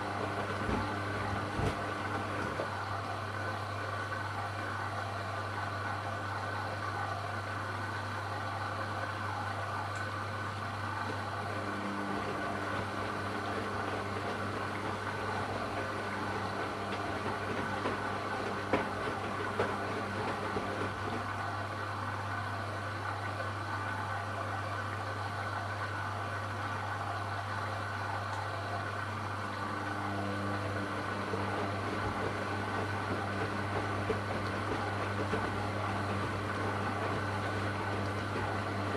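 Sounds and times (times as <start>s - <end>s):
washing machine hum: 0.0s - 38.9s.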